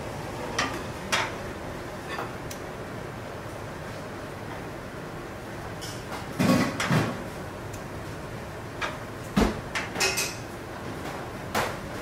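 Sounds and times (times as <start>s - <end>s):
steady hum: 0.0s - 9.8s.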